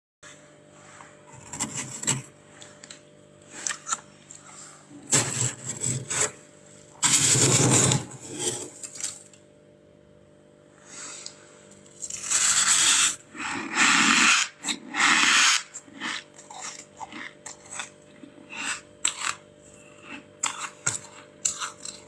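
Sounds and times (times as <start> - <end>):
steady low hum: 0.2 - 22.0
freezer frost being scraped: 0.8 - 2.7, 3.5 - 9.3, 10.8 - 22.0.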